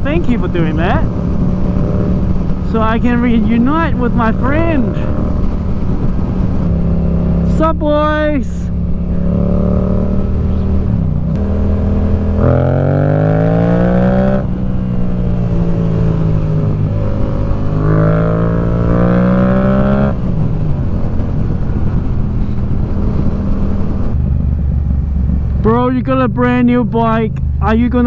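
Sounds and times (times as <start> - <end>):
motorcycle engine revving: 0.0 - 28.0
wind and road noise: 0.0 - 28.0.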